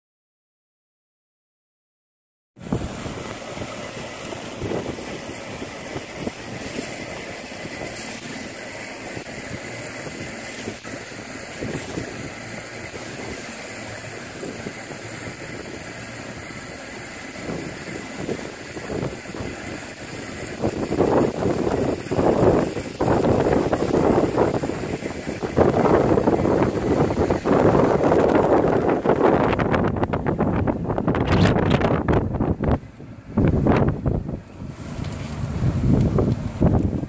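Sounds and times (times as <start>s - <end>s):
water sloshing around boat: 2.6s - 37.0s
wind buffeting microphone: 2.6s - 37.0s.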